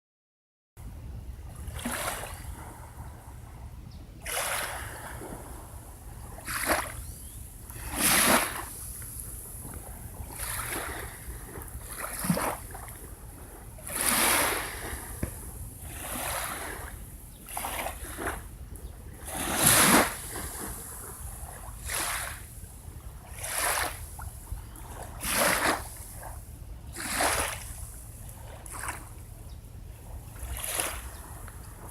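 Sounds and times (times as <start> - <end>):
steady low rumble: 0.8 - 31.9
small waves breaking on beach: 4.2 - 29.2, 30.1 - 31.9.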